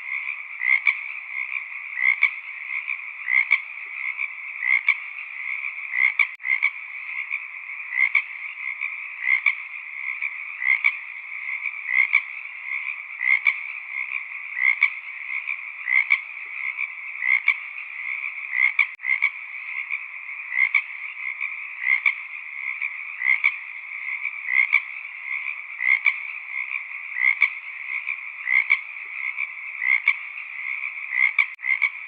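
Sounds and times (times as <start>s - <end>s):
frog chorus: 0.0s - 32.0s
loud frog croak: 0.0s - 32.0s.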